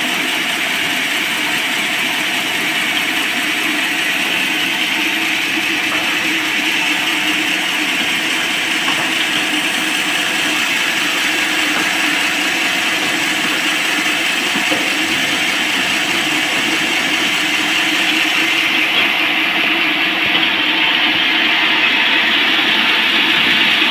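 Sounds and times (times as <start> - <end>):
band sawmill running: 0.0 - 23.9.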